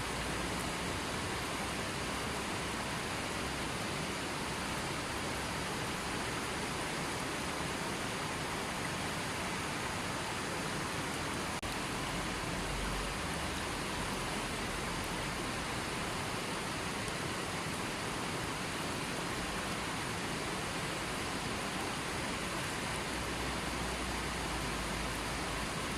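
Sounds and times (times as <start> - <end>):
hiss of falling water: 0.0 - 25.9.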